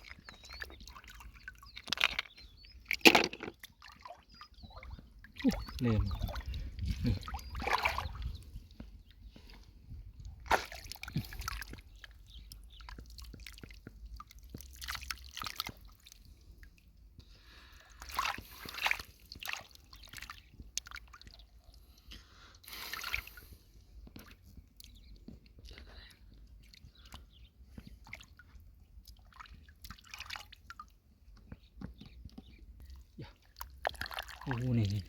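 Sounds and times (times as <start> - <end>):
lake water sloshing and splashing: 0.0 - 16.9, 17.5 - 22.0, 22.7 - 25.8, 26.6 - 31.0, 32.9 - 35.0.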